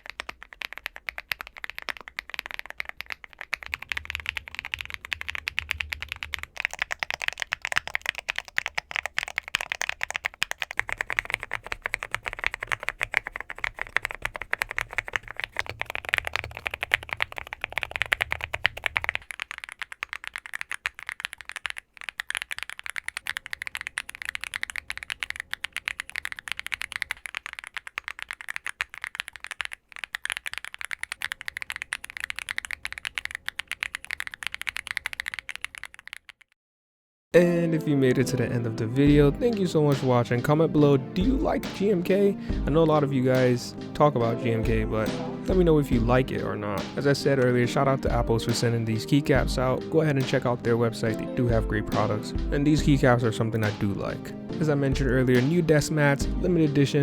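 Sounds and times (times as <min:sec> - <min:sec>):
fast mechanical keyboard typing: 0:00.0 - 0:36.6, 0:38.4 - 0:57.0.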